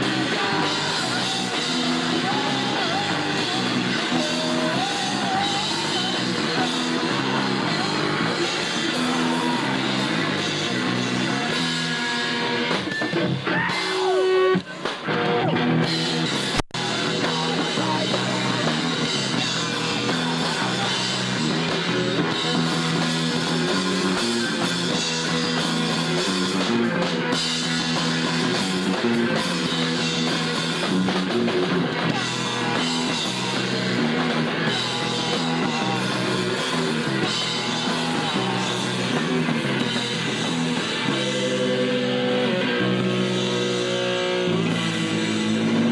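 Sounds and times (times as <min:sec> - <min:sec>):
live punk rock band: 0:00.0 - 0:45.9.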